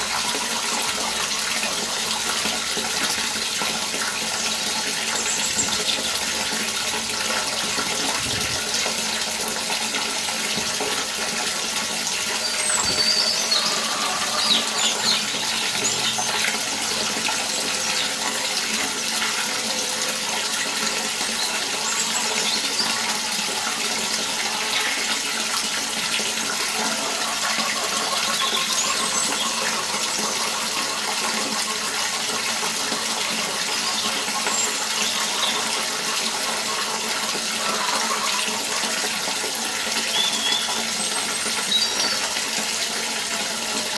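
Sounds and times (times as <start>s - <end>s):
water running and splashing: 0.0s - 43.9s.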